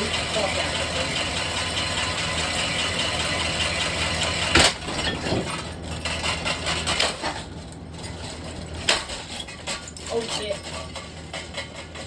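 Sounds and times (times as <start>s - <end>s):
ceiling fan humming: 0.0s - 12.0s
knocks and rattles: 0.0s - 12.0s.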